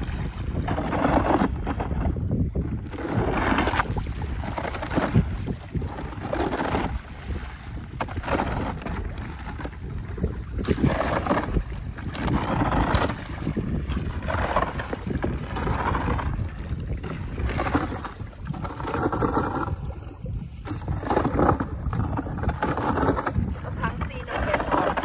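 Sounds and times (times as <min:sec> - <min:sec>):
shallow water sloshing and splashing: 0:00.0 - 0:25.0
wind rumble on microphone: 0:00.0 - 0:25.0.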